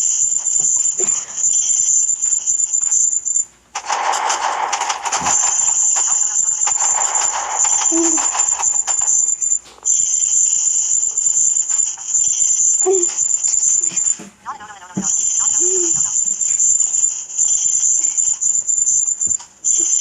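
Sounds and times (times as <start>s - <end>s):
crackling jumble of clicks: 0.0s - 14.2s, 15.1s - 20.0s.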